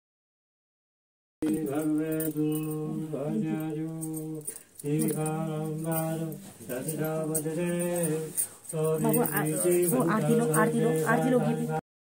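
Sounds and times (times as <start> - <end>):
person chanting a prayer: 1.4 - 11.8.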